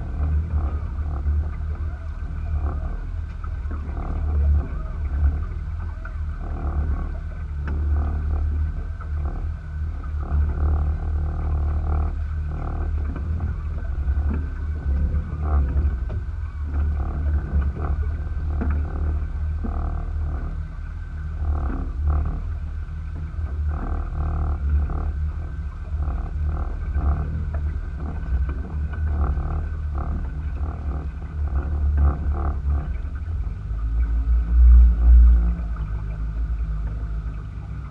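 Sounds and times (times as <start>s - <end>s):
outboard motor running: 0.0s - 37.9s.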